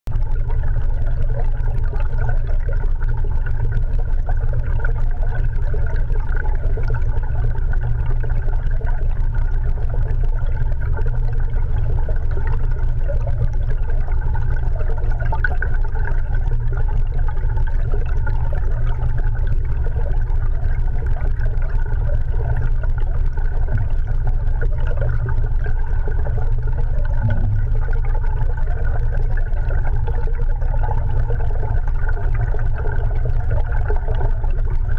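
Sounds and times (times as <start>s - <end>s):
faint steady drone: 0.1s - 34.9s
muffled underwater rumble: 0.1s - 34.9s
water moving past: 0.2s - 34.9s.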